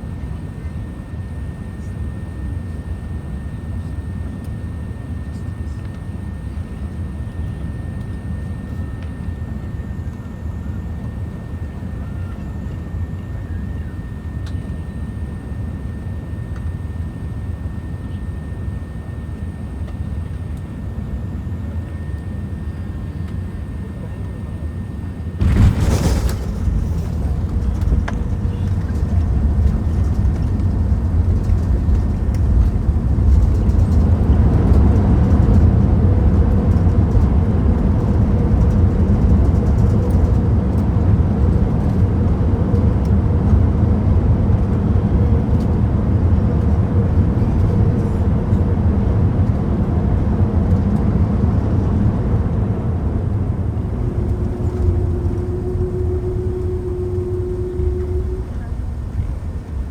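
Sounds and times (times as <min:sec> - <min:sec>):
airplane cabin low rumble: 0:00.0 - 0:59.9
steady hum: 0:00.0 - 0:59.9.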